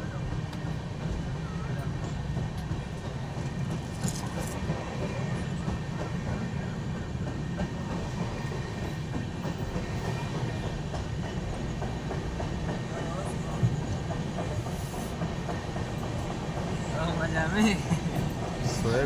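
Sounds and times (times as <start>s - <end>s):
train rumble inside coach: 0.0s - 19.0s
wheels clicking on rails: 0.2s - 19.0s.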